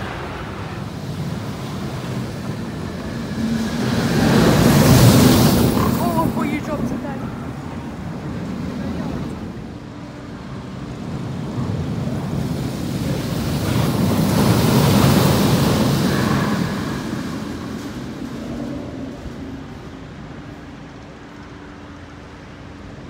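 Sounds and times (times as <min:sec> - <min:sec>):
rumbling noise: 0:00.0 - 0:21.7.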